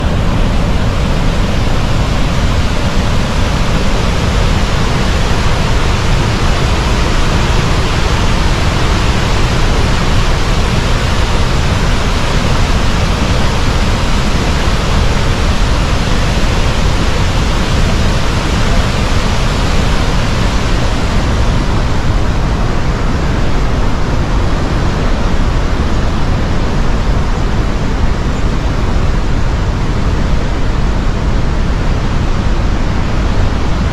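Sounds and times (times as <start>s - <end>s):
waterfall roaring: 0.0s - 33.9s.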